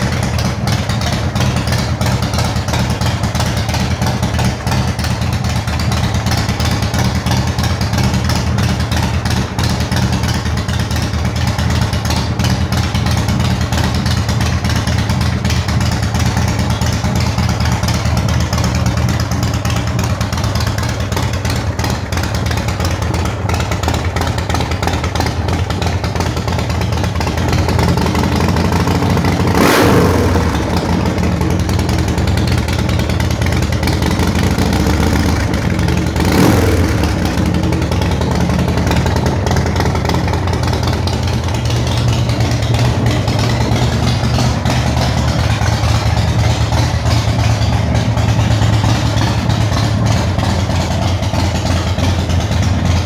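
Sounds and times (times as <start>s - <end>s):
motorcycle engine idling: 0.0s - 53.0s.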